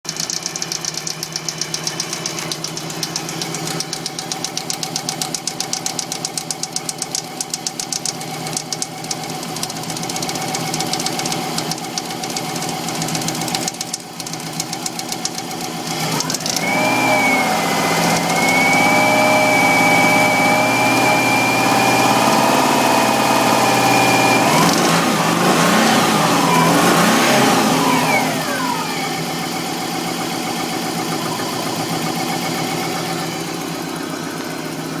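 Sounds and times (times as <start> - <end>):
car engine knocking and revving: 0.0 - 35.0.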